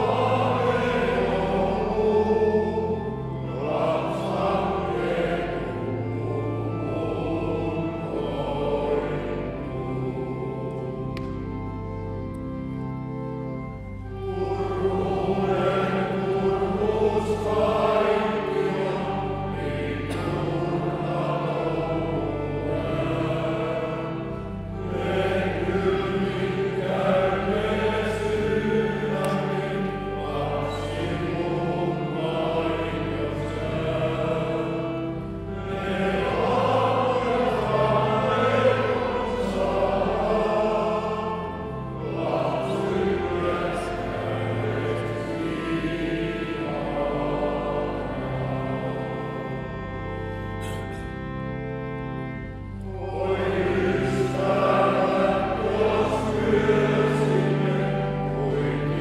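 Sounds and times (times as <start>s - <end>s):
men's choir singing: 0.0s - 11.7s, 13.6s - 59.0s.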